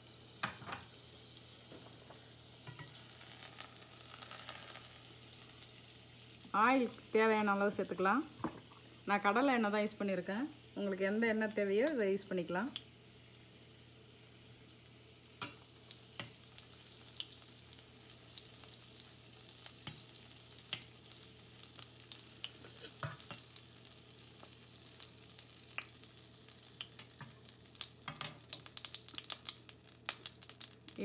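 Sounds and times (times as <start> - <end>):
oil sizzling and crackling: 0.0 - 31.0.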